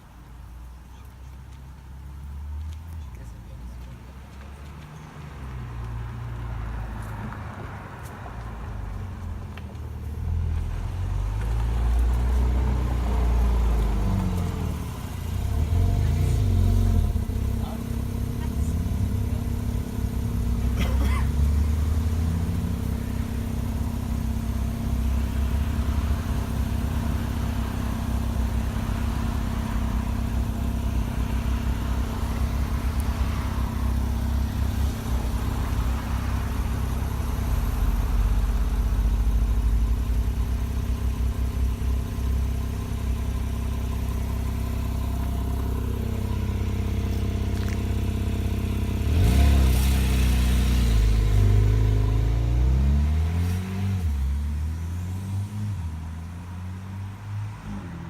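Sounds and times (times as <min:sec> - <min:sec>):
cars passing: 0:00.0 - 0:58.0
traffic engine hum: 0:00.0 - 0:58.0.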